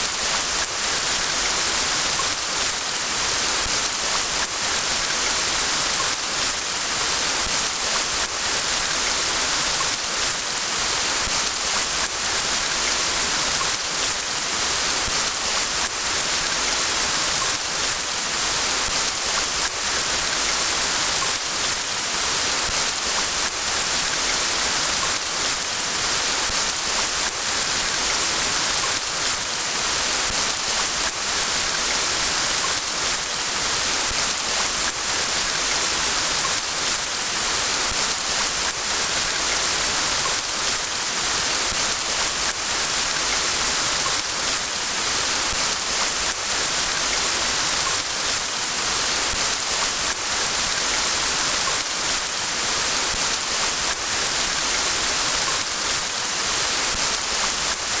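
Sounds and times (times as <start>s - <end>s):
faint patter of raindrops: 0.0s - 58.0s.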